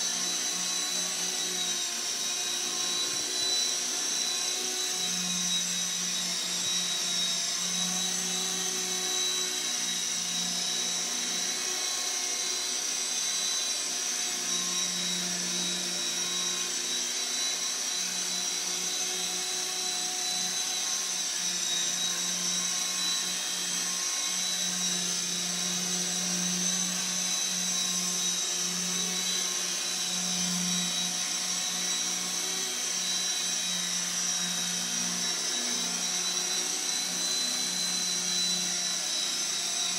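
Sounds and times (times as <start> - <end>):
motor and gears whining: 0.0 - 39.9.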